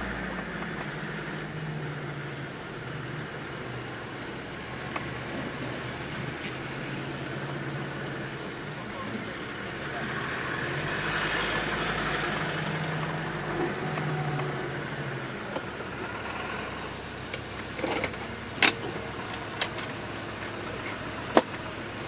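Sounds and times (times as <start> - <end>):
diesel engine running from inside cabin: 0.0 - 22.0.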